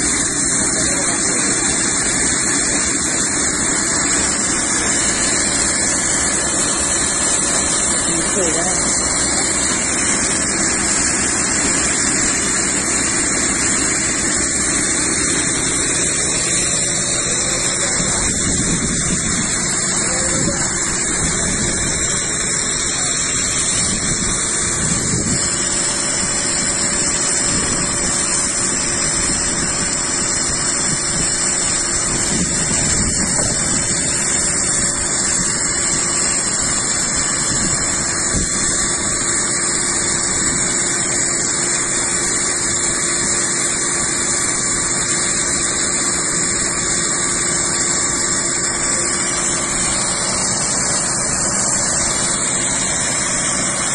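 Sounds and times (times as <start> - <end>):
water pump running with whine: 0.0 - 53.9.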